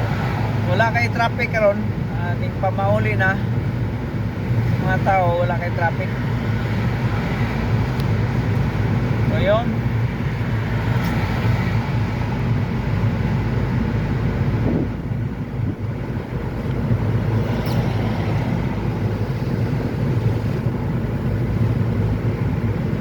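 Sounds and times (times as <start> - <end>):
car engine and tyres drone: 0.0 - 23.0.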